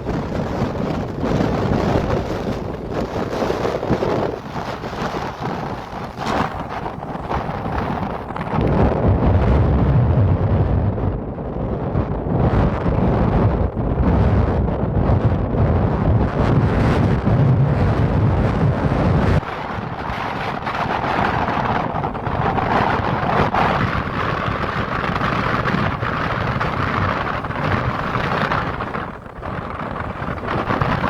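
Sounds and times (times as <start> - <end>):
steady rushing wind: 0.0 - 31.0
wind buffeting microphone: 0.0 - 31.0.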